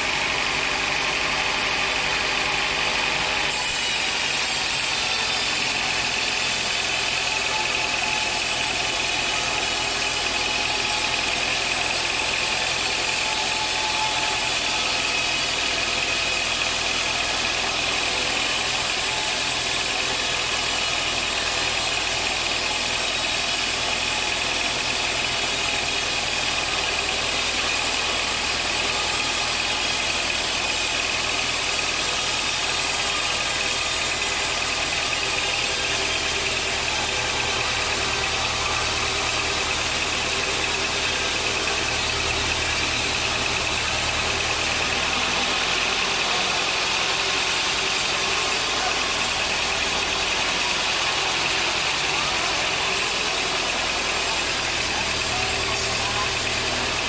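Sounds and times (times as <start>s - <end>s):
high machine whine: 0.0s - 57.0s
sawmill machinery drone: 0.0s - 57.0s.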